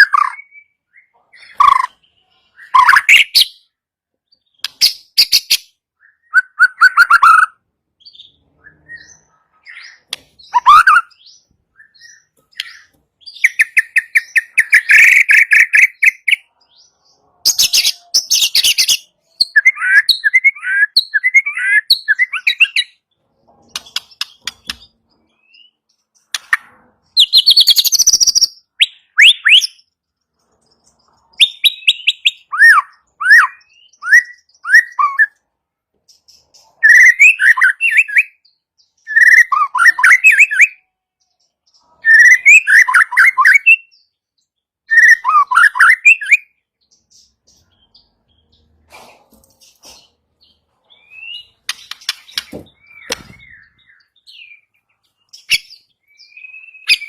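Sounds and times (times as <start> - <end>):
bird singing whistled notes: 0.0 - 3.8, 4.4 - 16.9, 17.5 - 23.0, 27.1 - 30.1, 31.1 - 35.4, 36.8 - 40.9, 41.6 - 48.7, 50.4 - 57.0.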